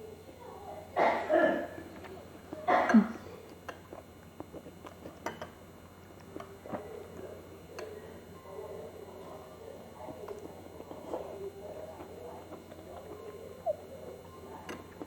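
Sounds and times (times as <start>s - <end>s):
chewing: 1.9s - 15.0s.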